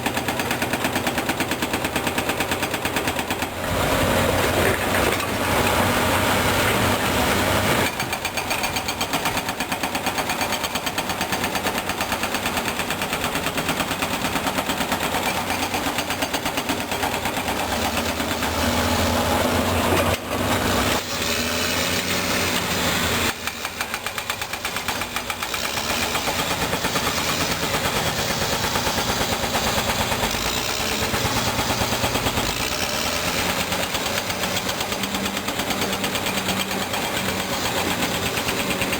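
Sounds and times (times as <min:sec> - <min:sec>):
bulldozer diesel engine working: 0:00.0 - 0:38.9.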